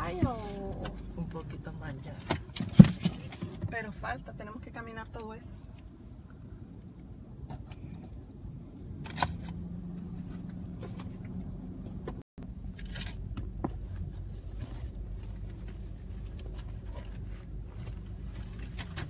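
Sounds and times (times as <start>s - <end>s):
car running rumble: 0.0s - 4.6s, 5.3s - 19.0s.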